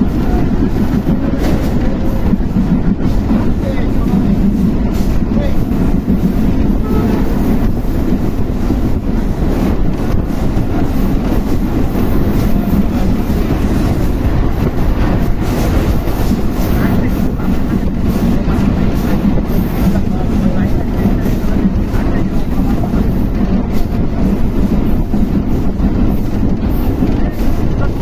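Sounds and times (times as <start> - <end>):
rail clacks: 0.0 - 28.0
train rumbling on rails: 0.0 - 28.0.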